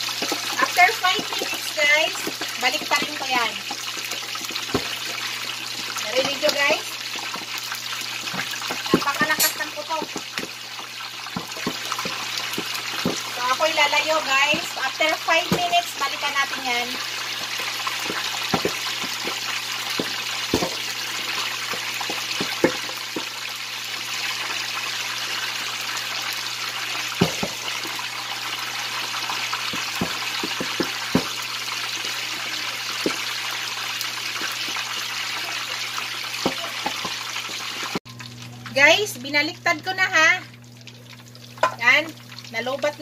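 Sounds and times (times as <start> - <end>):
meat sizzling in hot oil: 0.0 - 43.0.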